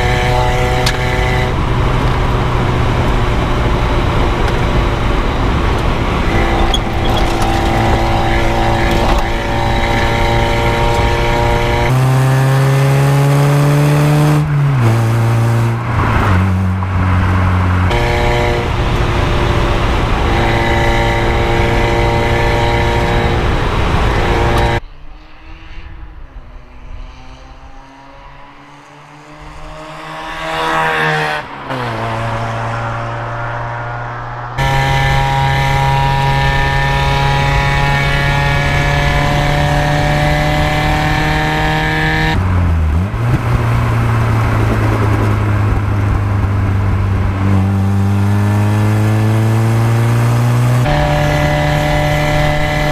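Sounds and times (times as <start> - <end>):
car engine revving hard: 0.0 - 24.8, 27.2 - 52.9
quieter car with rising pitch: 0.0 - 52.9.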